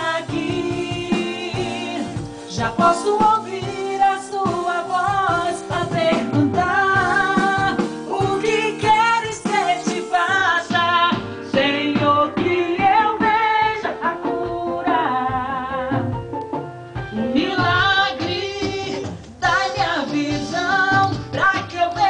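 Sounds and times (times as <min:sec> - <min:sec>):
band with guitar and beat: 0:00.0 - 0:22.0
gospel worship song: 0:00.0 - 0:22.0.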